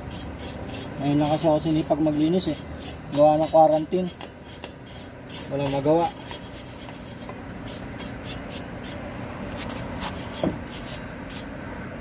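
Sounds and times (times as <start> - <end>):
brush scrubbing brake drum: 0.0 - 9.0, 9.6 - 11.5.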